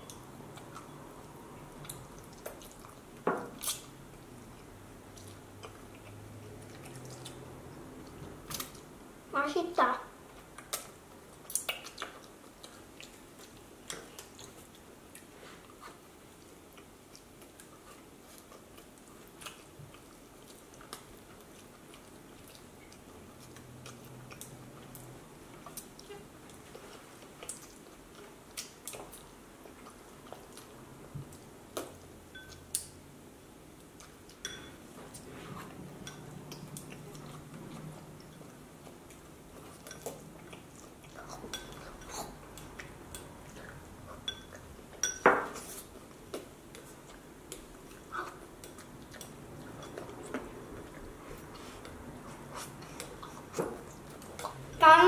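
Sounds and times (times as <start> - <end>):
child chewing noodles: 0.0 - 9.2, 10.2 - 54.9.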